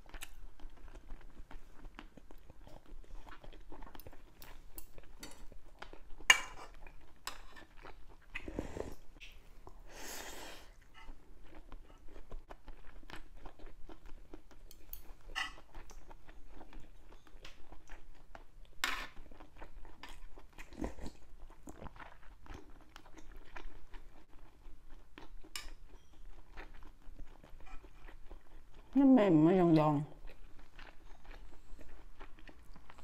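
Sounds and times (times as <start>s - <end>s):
wet chewing with crunching: 0.0s - 9.9s, 10.6s - 33.0s.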